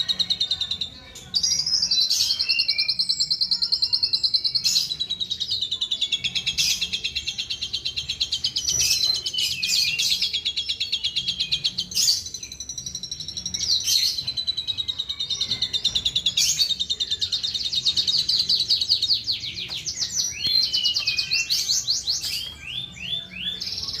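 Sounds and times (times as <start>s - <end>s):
starling chirps and trills: 0.0s - 24.0s.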